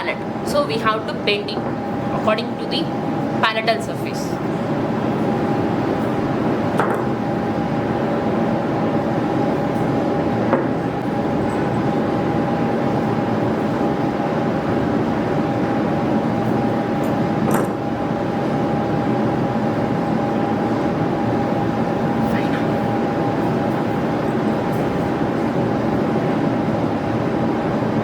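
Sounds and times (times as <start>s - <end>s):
faint steady whine: 0.0s - 28.0s
steady machine hum: 0.0s - 28.0s.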